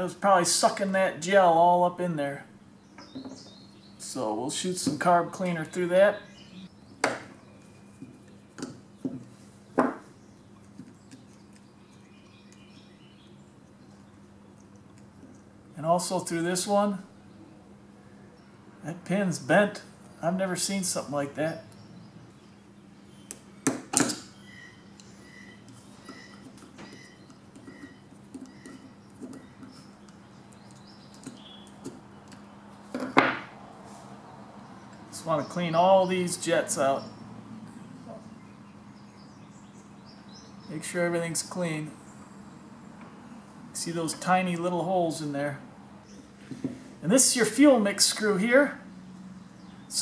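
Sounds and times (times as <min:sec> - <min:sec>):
faint steady hum: 0:00.0 - 0:50.0
bird chirping: 0:02.6 - 0:18.8, 0:20.1 - 0:32.9, 0:34.2 - 0:45.2, 0:48.2 - 0:50.0.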